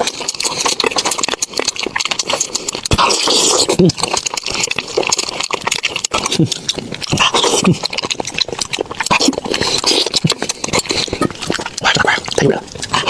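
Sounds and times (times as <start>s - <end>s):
chewing and crunching bones: 0.0s - 13.0s
wet mouth sounds: 0.0s - 13.0s.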